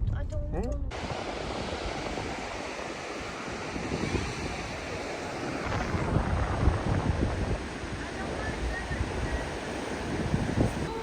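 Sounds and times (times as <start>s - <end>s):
sea surf washing on shore: 0.9s - 11.0s
wind on microphone: 0.9s - 11.0s.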